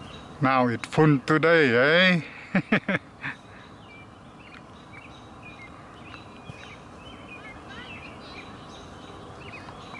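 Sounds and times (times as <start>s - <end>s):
small birds chirping: 0.0s - 9.9s
steady outdoor hum: 0.0s - 9.9s.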